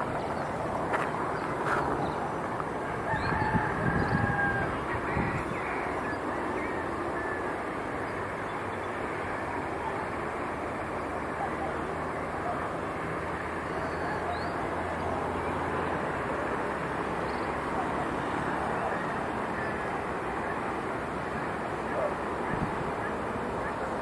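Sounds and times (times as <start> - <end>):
low engine hum: 0.0 - 24.0
traffic rumble: 0.0 - 24.0.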